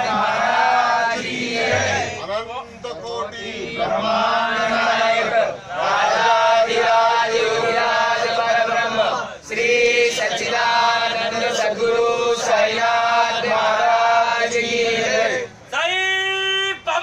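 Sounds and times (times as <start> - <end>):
men chanting prayer in unison: 0.0 - 2.3, 2.9 - 15.6.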